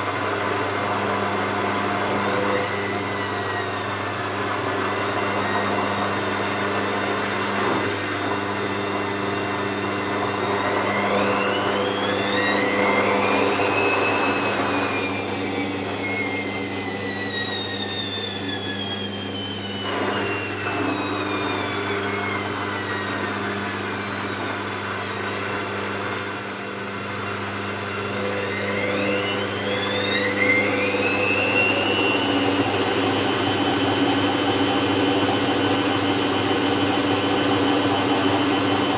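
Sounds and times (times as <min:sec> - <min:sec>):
washing machine running: 0:00.0 - 0:38.9
motor whine: 0:02.1 - 0:38.9.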